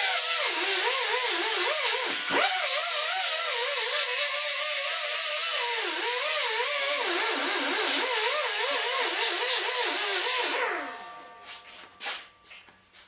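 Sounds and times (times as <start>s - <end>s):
die grinder whining on metal: 0.0s - 11.1s.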